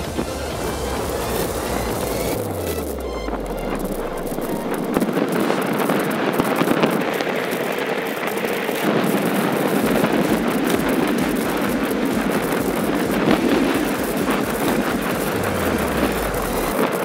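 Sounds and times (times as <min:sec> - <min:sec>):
bicycle ride rumble: 0:00.0 - 0:17.0
wind rushing over microphone: 0:00.0 - 0:17.0.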